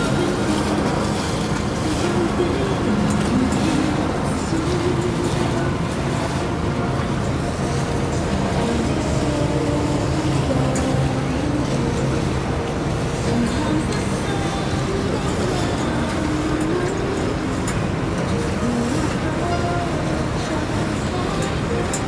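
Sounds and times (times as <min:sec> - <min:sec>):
motor boat engine droning: 0:00.0 - 0:22.0
water noise: 0:00.0 - 0:22.0.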